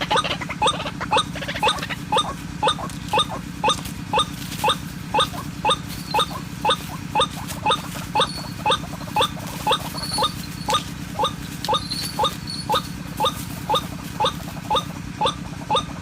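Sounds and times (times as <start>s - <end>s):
steady low hum: 0.0s - 16.0s
waterhen calls from speaker: 0.0s - 16.0s.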